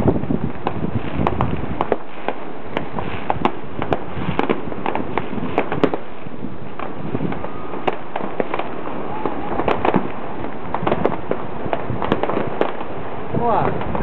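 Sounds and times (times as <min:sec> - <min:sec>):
fireworks cracking and popping: 0:00.0 - 0:14.0.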